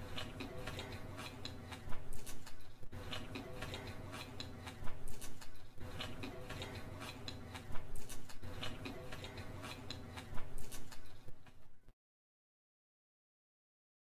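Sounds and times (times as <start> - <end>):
mouth chewing food: 0.0 - 11.8.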